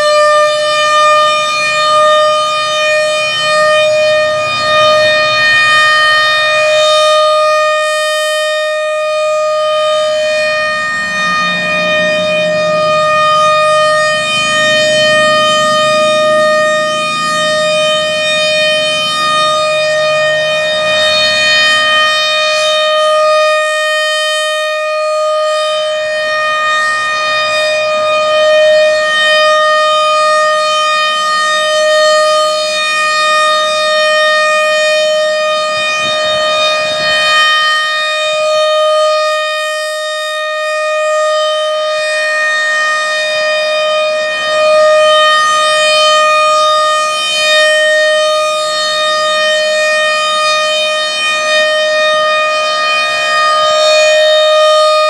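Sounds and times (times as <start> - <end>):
rotating warning siren: 0.0 - 55.0.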